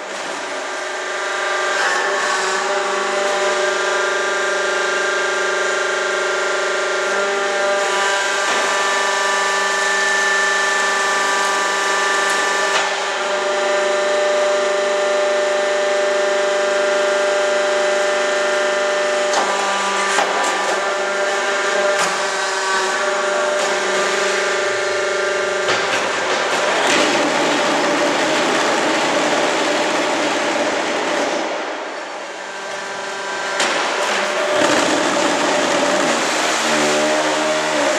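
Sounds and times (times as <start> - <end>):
machine whining hum: 0.0 - 37.9.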